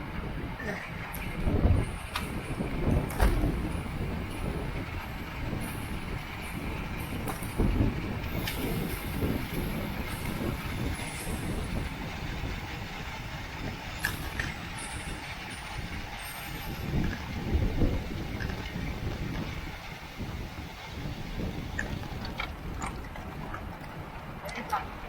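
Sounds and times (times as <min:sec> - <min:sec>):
bicycle road rumble: 0:00.0 - 0:25.0
wind rushing over microphone: 0:00.0 - 0:25.0.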